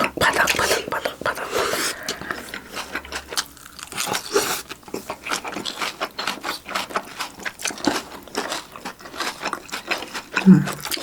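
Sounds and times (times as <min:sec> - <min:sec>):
chewing and crunching: 0:00.0 - 0:11.0.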